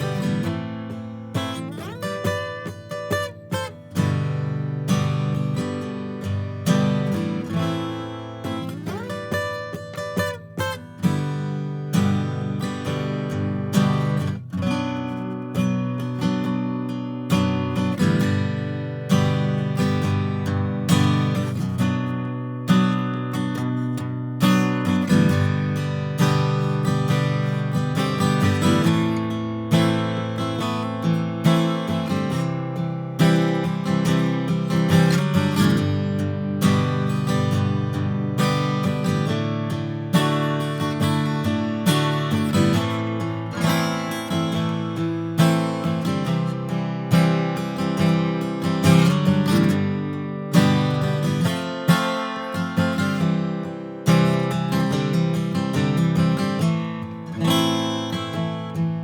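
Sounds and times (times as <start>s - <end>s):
acoustic guitar strummed: 0.0s - 59.0s.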